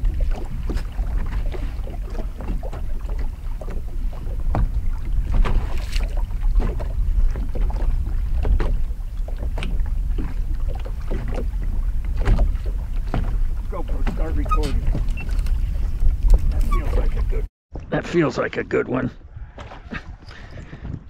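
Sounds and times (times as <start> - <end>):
wind buffeting microphone: 0.0 - 17.5, 19.1 - 21.0
waves lapping against boat hull: 0.0 - 21.0.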